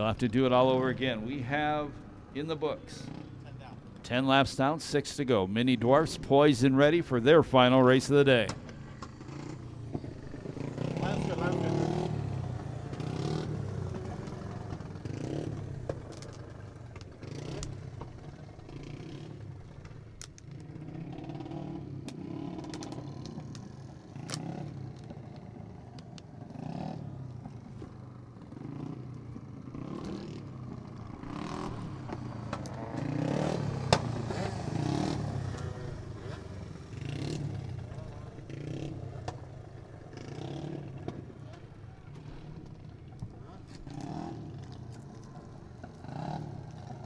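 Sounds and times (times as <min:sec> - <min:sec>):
go-kart engines passing: 0:00.0 - 0:47.0.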